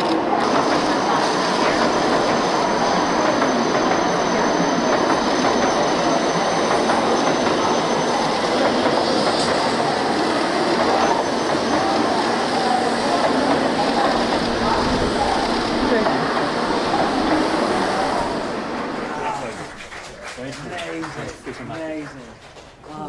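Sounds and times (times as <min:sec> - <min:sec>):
train wheels on rails: 0:00.0 - 0:22.8.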